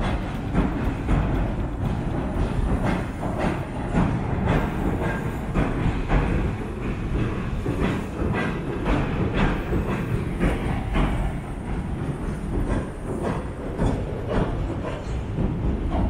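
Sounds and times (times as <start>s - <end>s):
train crossing steel bridge: 0.0s - 16.0s
wheels clacking over rail joints: 0.0s - 16.0s.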